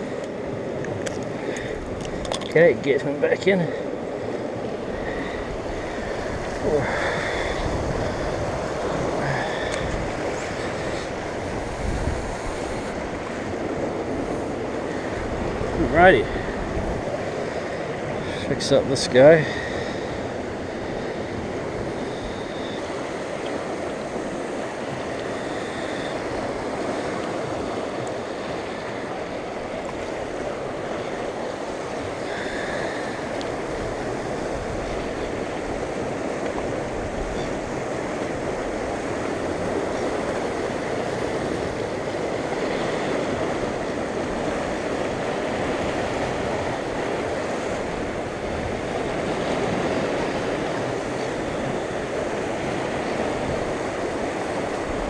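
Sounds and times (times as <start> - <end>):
surf washing around rocks: 0.0 - 55.0.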